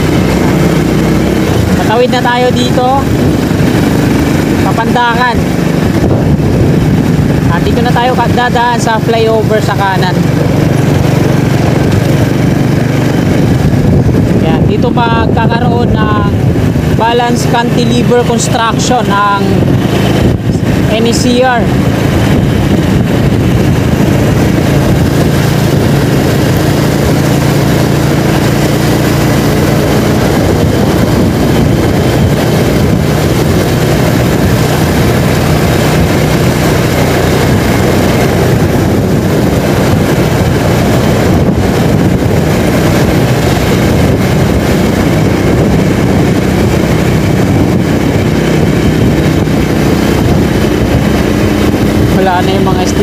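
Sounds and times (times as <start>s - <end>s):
motorcycle engine running: 0.0s - 53.0s
wind rushing on microphone: 0.0s - 53.0s.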